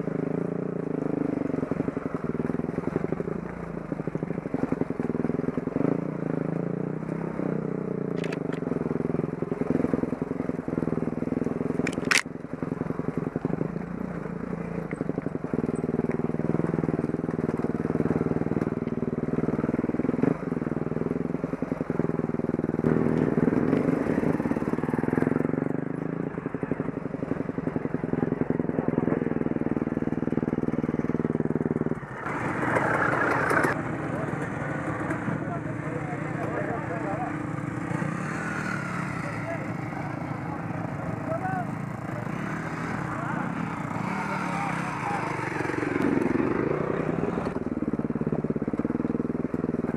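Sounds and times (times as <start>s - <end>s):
dirt bike engine running: 0.0s - 49.9s.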